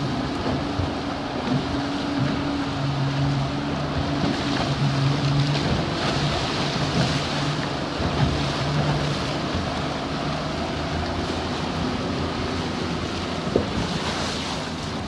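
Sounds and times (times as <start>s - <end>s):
outboard motor humming: 0.0s - 15.0s
water rushing past hull: 0.0s - 15.0s.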